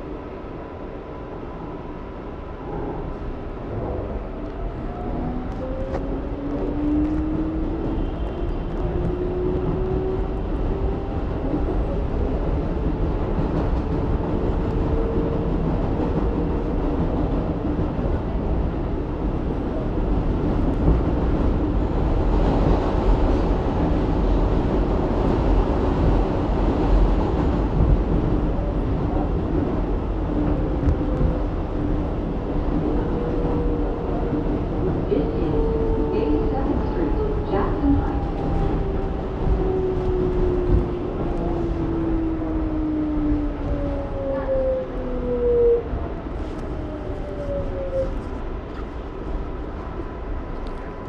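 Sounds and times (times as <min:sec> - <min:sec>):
subway train humming at platform: 0:00.0 - 0:51.0.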